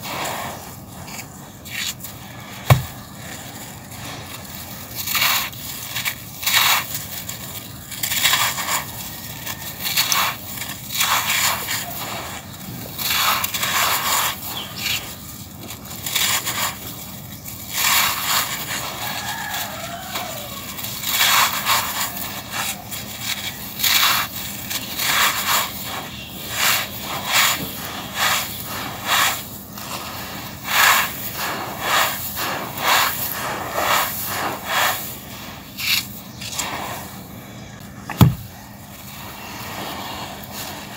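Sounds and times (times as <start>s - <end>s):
hands crushing sand chunks: 0.0s - 40.9s
sand pouring and hissing: 0.0s - 40.9s.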